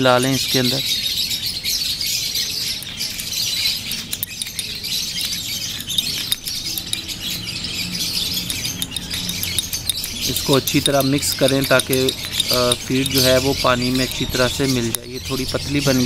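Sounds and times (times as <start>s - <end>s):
small birds chirping: 0.0s - 16.0s
spoon clinking against ceramic cup: 2.8s - 16.0s.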